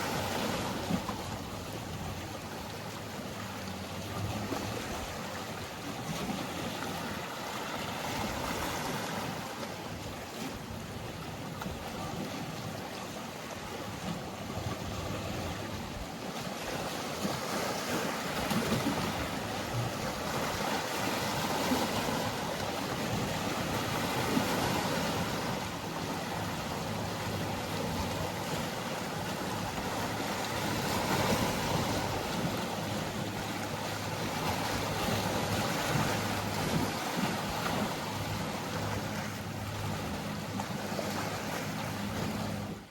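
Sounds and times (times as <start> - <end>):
faint boat engine hum: 0.0 - 42.9
sea waves washing on shore: 0.0 - 42.9.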